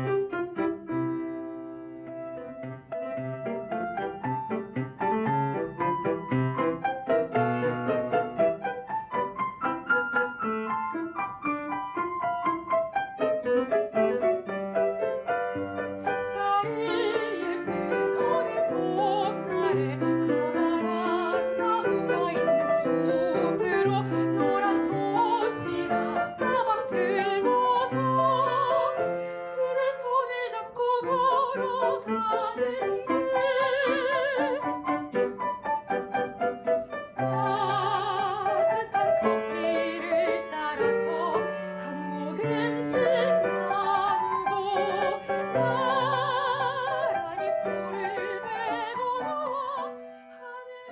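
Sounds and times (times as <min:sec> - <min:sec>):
piano playing: 0:00.0 - 0:50.9
soprano singing: 0:00.0 - 0:50.9.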